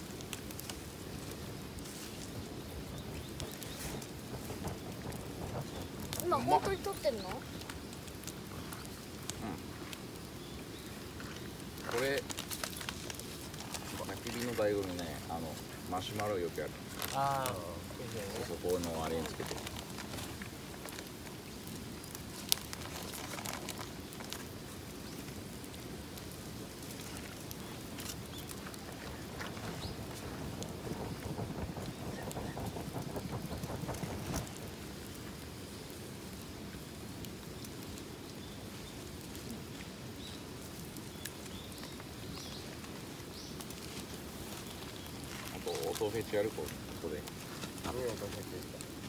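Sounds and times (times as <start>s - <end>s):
campfire crackling: 0.0s - 49.0s
fire popping: 0.0s - 49.0s.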